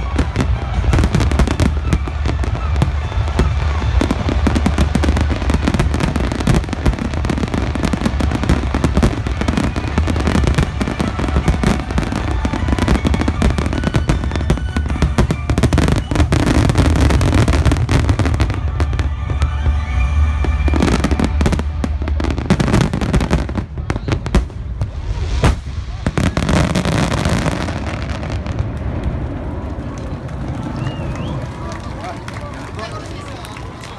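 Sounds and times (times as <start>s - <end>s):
fireworks booms and crackling: 0.0s - 31.3s
heavy low rumble: 0.0s - 31.8s.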